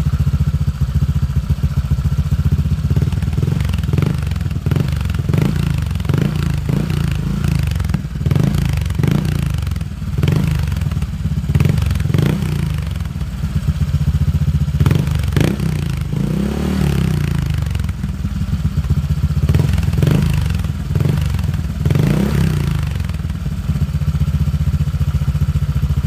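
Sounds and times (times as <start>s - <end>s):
scooter engine idling and revving: 0.0s - 26.0s.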